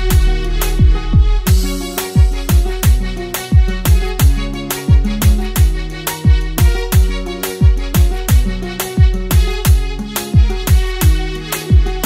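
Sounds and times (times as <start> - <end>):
deep kick drum: 0.0 - 12.0
sustained melodic chords: 0.0 - 12.0.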